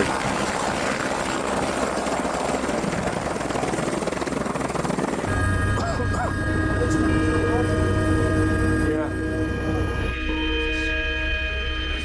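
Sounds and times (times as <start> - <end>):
helicopter rotor beating: 0.0 - 10.7
helicopter engine noise: 0.0 - 12.0.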